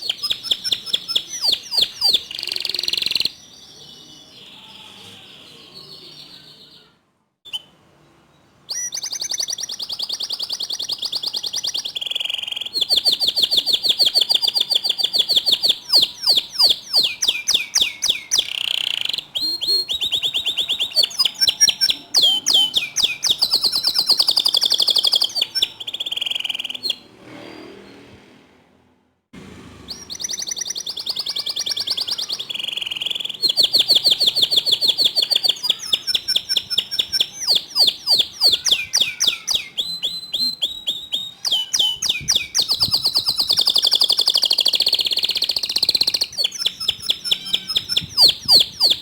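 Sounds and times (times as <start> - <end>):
canary singing trills: 0.0 - 27.1, 29.9 - 49.0.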